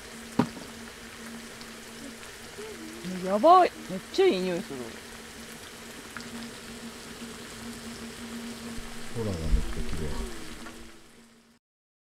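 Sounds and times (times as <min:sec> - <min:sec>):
low hum: 0:00.0 - 0:11.5
oil sizzling in a pan: 0:00.0 - 0:11.5.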